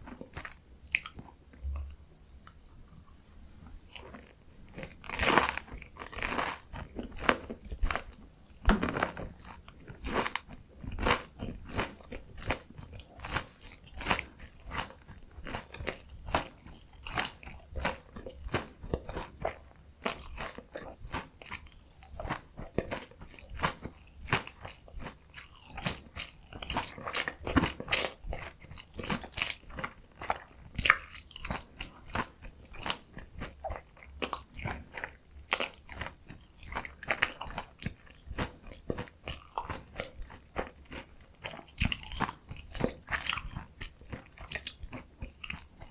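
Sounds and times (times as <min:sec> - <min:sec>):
crunchy bites and chewing: 0:03.9 - 0:45.9.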